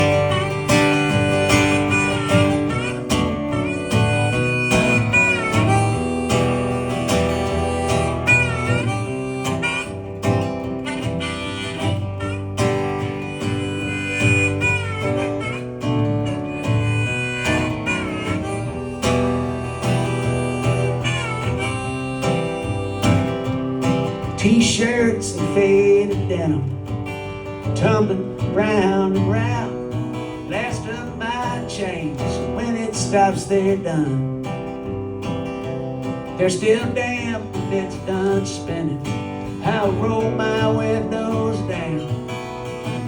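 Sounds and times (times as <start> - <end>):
acoustic guitar strumming: 0.0 - 43.0
harmonica melody: 0.0 - 43.0.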